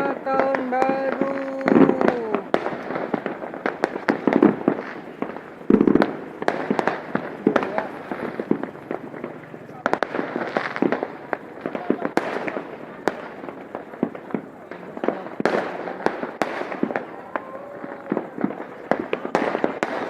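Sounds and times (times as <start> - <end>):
continuous din of explosions: 0.0 - 20.0
fireworks bangs and crackles: 0.0 - 20.0.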